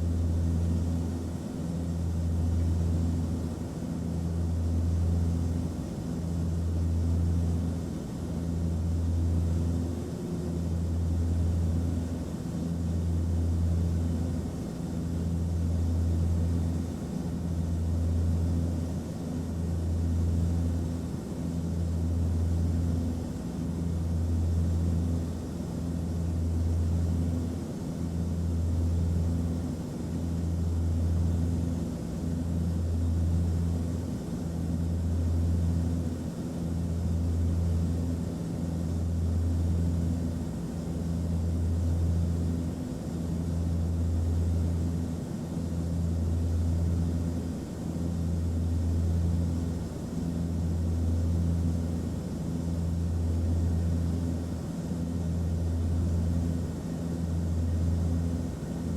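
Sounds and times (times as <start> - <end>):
aircraft engine drone: 0.0 - 58.9.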